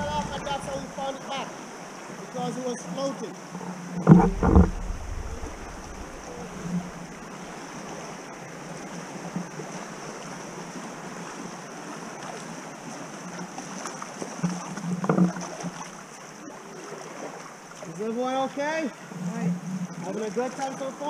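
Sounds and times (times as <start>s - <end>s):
river water rushing and lapping: 0.0s - 21.0s.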